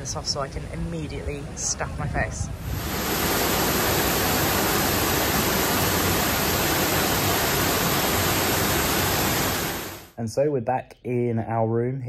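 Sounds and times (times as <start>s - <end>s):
steady rushing noise: 0.0s - 10.2s.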